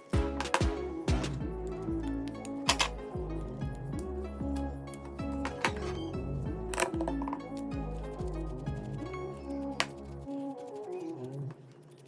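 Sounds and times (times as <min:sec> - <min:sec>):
background music with steady beat: 0:00.0 - 0:10.8.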